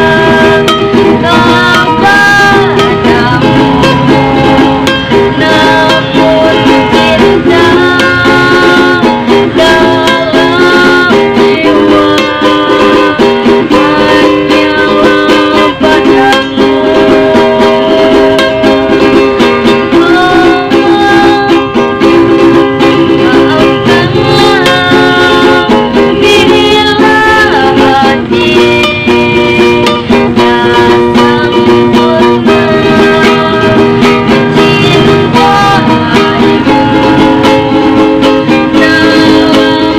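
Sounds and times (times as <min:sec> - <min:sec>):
song melody: 0:00.0 - 0:39.9
ukulele strumming: 0:00.0 - 0:39.9.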